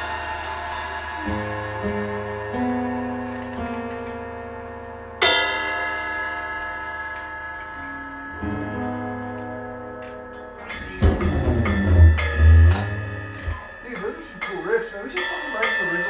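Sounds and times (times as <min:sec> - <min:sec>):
guitar riff: 0:00.0 - 0:15.8.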